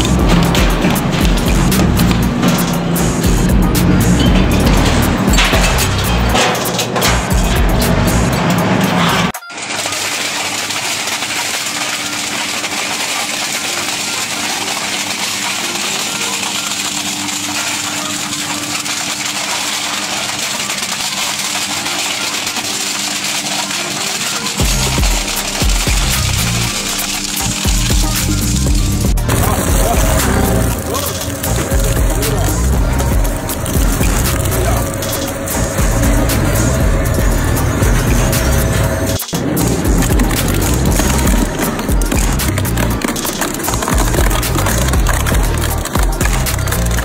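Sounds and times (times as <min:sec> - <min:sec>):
background music with steady beat: 0:00.0 - 0:09.6, 0:11.0 - 0:47.0
metal shredder grinding scrap: 0:00.0 - 0:47.0.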